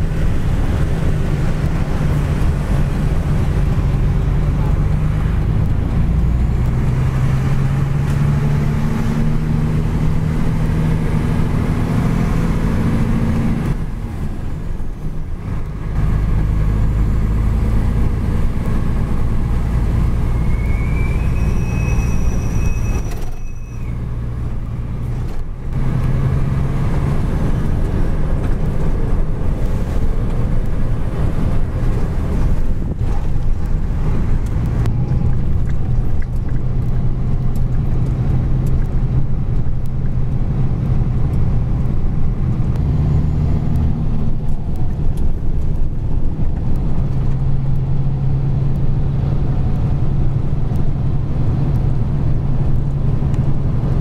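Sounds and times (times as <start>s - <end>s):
truck diesel engine from inside cab: 0.0s - 54.0s.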